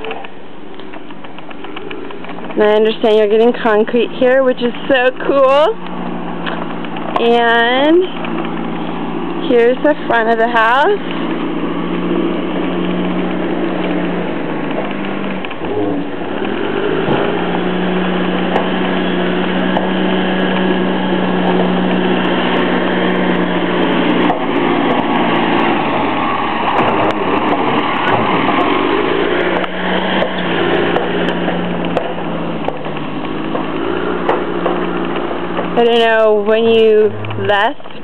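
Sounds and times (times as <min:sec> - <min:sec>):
loud rattling noise: 0:00.0 - 0:38.0
small engine humming: 0:00.0 - 0:38.0.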